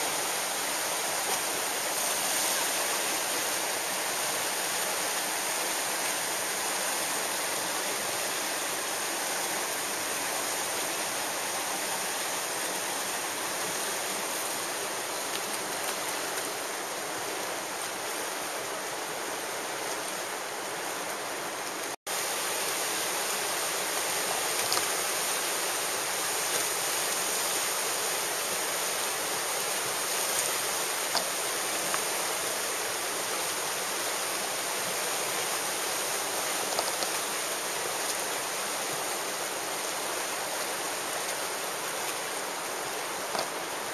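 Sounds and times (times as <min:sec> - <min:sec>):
whitewater rapids rushing: 0:00.0 - 0:43.9.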